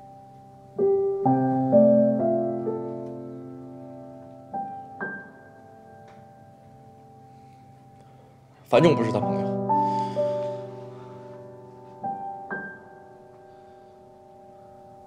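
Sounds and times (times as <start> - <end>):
slow piano notes and chords: 0.0 - 15.0.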